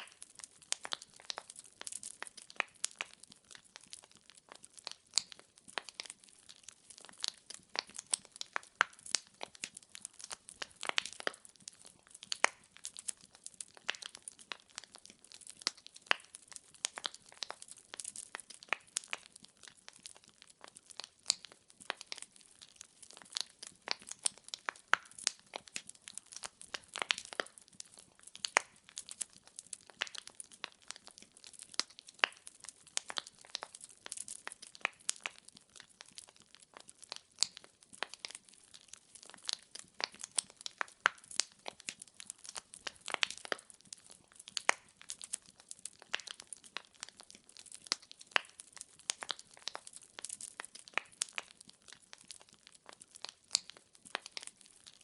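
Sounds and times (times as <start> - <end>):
logs popping: 0.0 - 54.9
wood fire crackling: 0.0 - 55.0.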